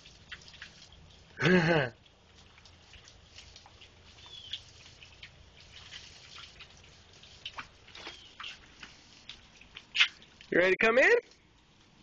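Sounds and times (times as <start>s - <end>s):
rain pattering and dripping: 0.0s - 12.0s.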